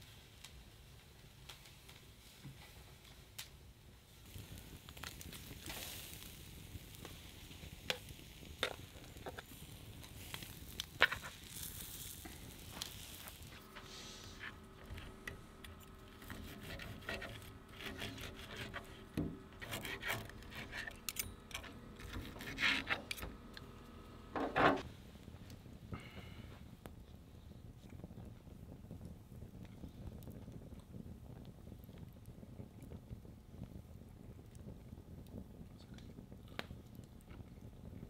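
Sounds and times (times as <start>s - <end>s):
low hiss: 0.0s - 38.0s.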